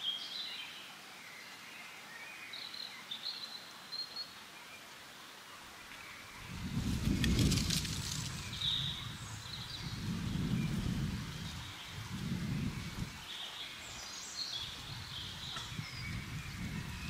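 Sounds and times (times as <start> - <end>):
wind gusting through forest: 0.0 - 17.0.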